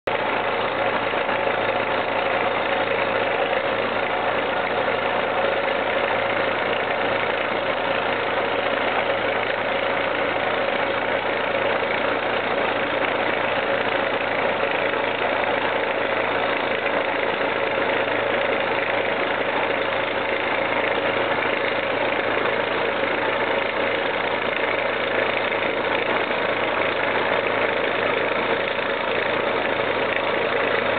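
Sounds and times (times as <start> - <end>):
drilling rig running: 0.1 - 30.9.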